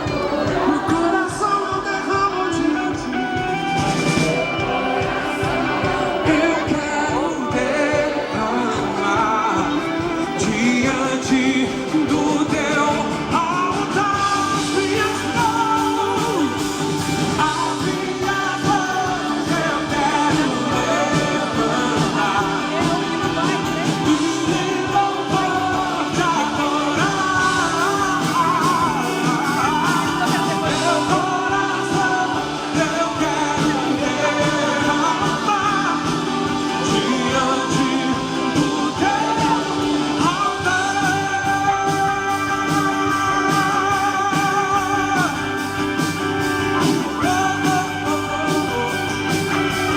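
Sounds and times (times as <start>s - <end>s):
gospel singing with band: 0.0s - 49.9s.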